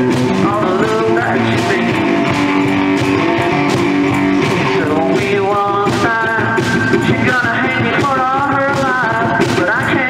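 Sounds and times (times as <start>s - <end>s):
bass drum and cymbal beat: 0.0s - 10.0s
electric guitar riff: 0.0s - 10.0s.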